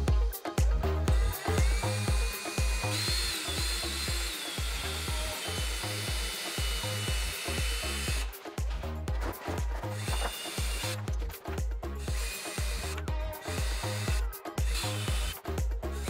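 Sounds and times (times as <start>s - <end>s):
background music with beat: 0.0s - 16.0s
cordless drill whining: 1.0s - 8.9s, 9.5s - 16.0s.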